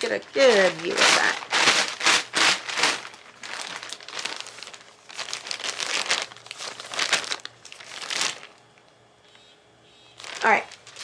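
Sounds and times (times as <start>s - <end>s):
plastic bag crinkling: 0.0s - 9.0s, 10.2s - 11.0s.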